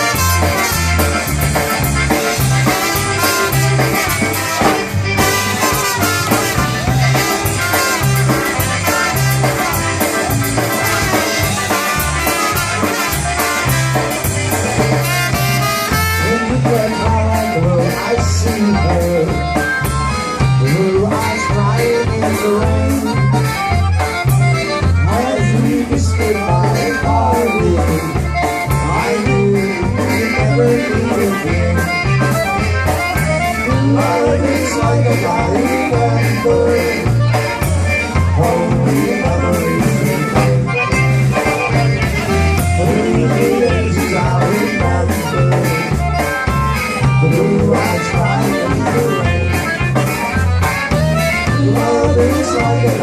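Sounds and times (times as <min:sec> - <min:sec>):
low bass line: 0:00.0 - 0:53.0
polka band playing: 0:00.0 - 0:53.0.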